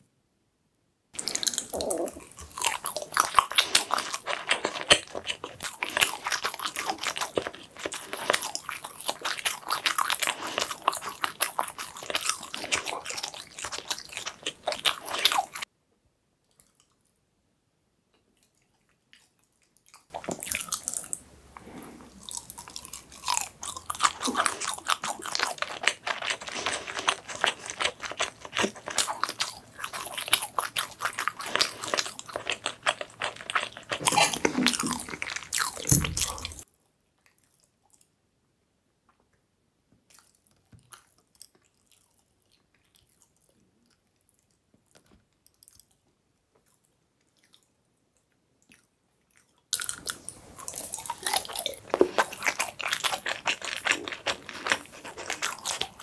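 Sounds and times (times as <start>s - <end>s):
chewing with mouth clicks: 1.2s - 15.7s, 18.3s - 38.2s, 40.1s - 56.0s.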